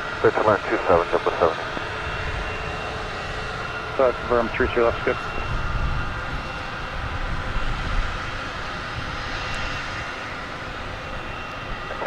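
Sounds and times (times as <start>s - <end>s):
distant jet engines rumbling: 0.0s - 12.0s
faint high engine whine: 0.0s - 12.0s.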